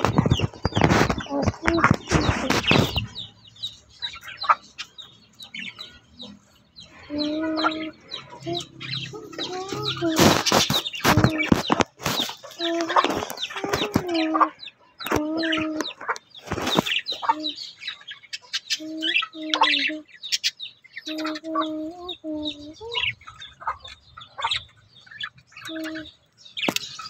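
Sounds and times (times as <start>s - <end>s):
birds calling: 0.0s - 27.0s
high bird chirps: 0.0s - 27.0s.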